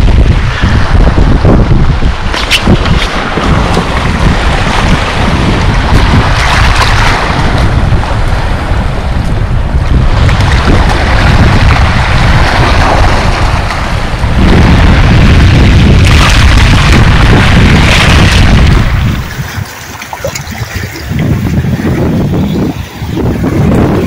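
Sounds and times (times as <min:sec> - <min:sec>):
choppy waves splashing: 0:00.0 - 0:24.0
wind buffeting microphone: 0:00.0 - 0:24.0.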